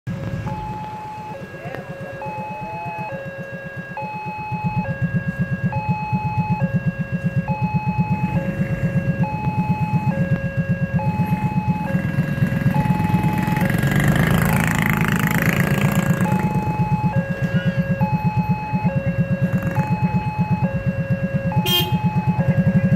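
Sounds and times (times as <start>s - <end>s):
motorcycle engine idling: 0.1s - 22.9s
level-crossing two-tone alarm: 0.3s - 22.9s.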